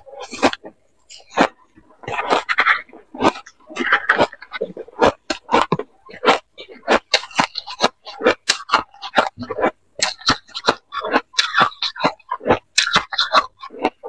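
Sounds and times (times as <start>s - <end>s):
crunching and chewing ice: 0.0s - 14.0s.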